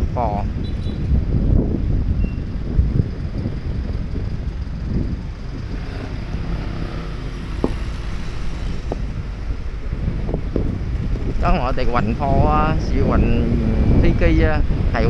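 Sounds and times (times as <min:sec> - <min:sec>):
street traffic rumbling: 0:00.0 - 0:15.0
wind buffeting microphone: 0:00.0 - 0:15.0.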